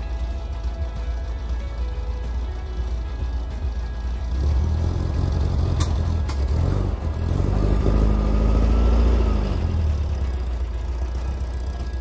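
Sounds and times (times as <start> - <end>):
vehicle engine accelerating: 0.0 - 12.0.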